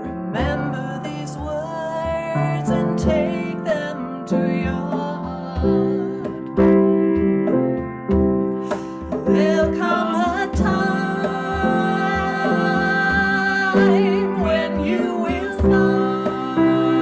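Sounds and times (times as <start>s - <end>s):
woman and man singing: 0.0s - 6.7s, 8.6s - 17.0s
hand drum beat: 0.0s - 17.0s.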